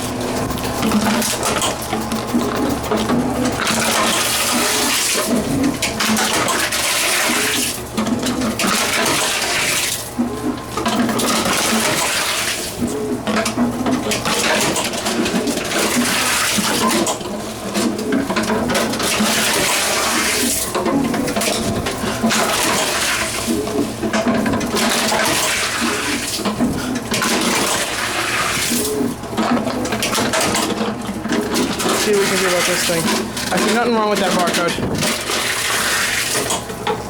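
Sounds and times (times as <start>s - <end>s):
vending machine rattling bottles: 0.0s - 37.0s.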